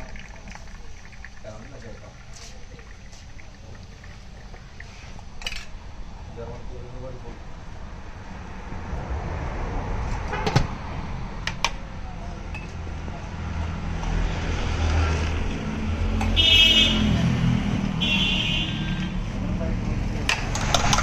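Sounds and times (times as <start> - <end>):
passing vehicle engine rumble: 0.0 - 18.0, 18.8 - 21.0.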